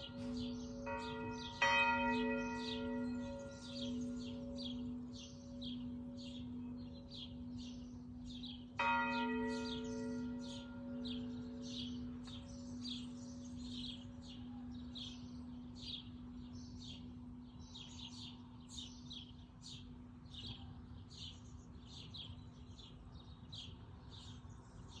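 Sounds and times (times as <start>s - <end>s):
church bell ringing: 0.0s - 20.0s
birds chirping: 0.0s - 24.9s.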